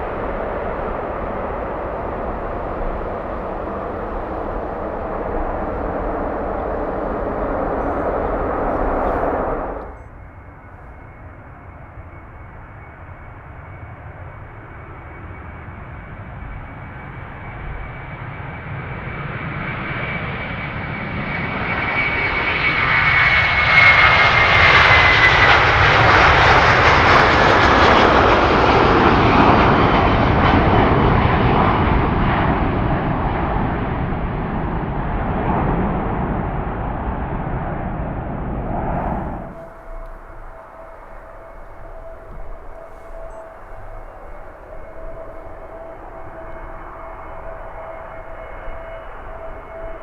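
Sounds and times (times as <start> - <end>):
jet airliner passing by: 0.0 - 50.0.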